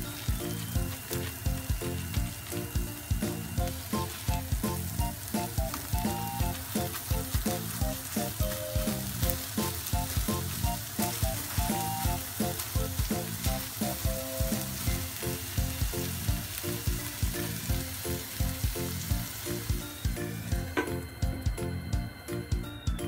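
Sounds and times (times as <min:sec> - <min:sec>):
burger patties sizzling in a pan: 0:00.0 - 0:22.7
background music with a beat: 0:00.0 - 0:23.0.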